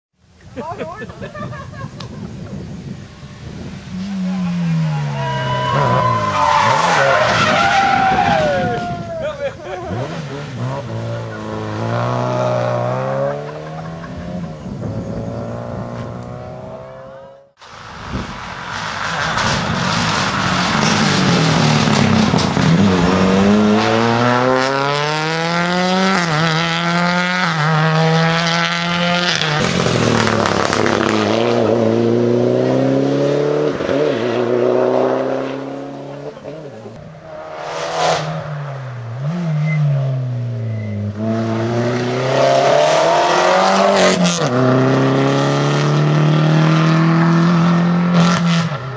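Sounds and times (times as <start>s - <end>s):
rally car engines accelerating: 1.2s - 48.9s.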